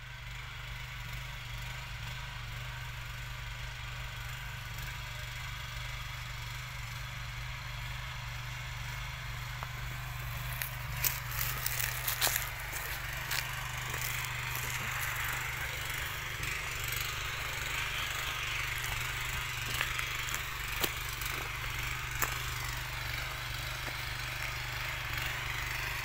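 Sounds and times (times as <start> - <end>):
small tiller engine running: 0.0 - 26.0.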